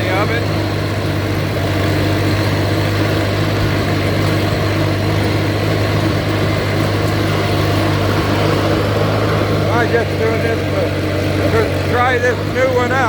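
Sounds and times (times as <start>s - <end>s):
mower blades humming: 0.0s - 13.0s
tractor engine running: 0.0s - 13.0s.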